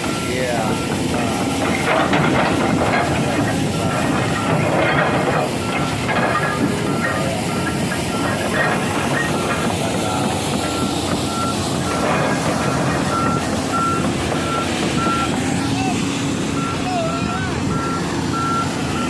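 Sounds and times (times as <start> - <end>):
travel alarm beeping: 0.0 - 1.8, 2.5 - 16.0, 16.6 - 19.0
excavator engine running: 0.0 - 19.0.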